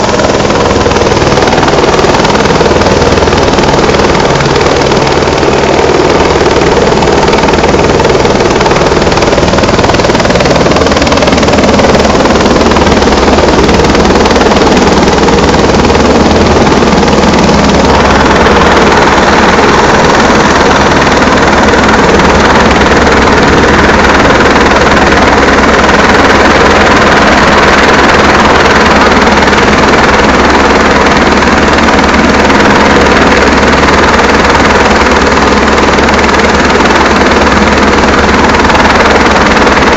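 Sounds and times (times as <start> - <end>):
helicopter rotor hovering: 0.0 - 39.9.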